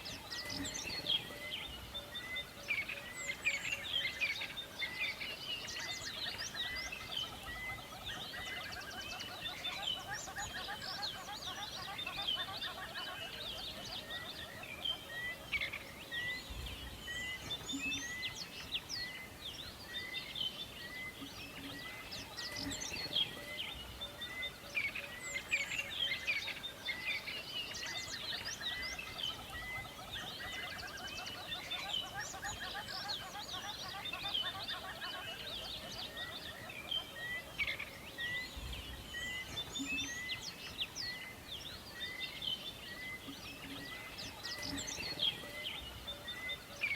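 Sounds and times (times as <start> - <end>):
birds chirping and trilling: 0.0 - 46.9.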